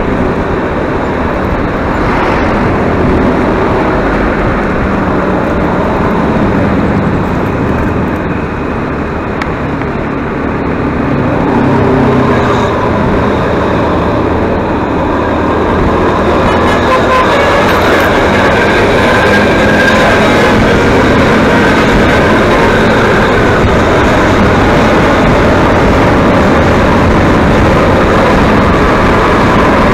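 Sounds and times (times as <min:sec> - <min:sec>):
road vehicle driving noise: 0:00.0 - 0:29.9.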